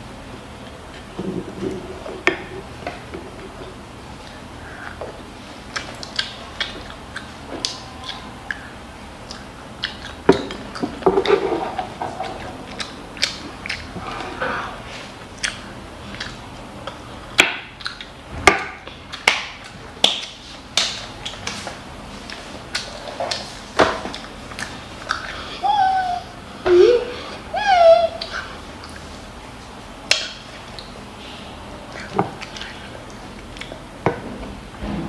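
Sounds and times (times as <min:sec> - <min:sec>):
child chewing and mouth-smacking: 0:00.6 - 0:18.2, 0:18.8 - 0:26.2, 0:26.9 - 0:31.0, 0:31.8 - 0:34.0.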